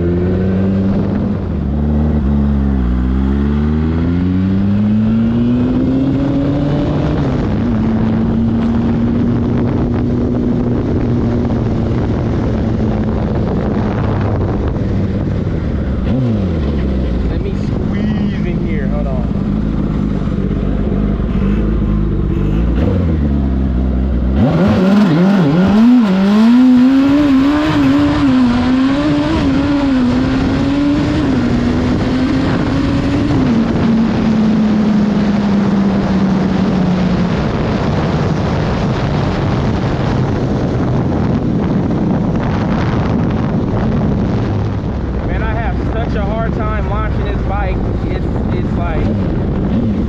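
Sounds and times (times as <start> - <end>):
motorcycle engine revving: 0.0 - 50.0
wind rushing over microphone: 0.0 - 50.0.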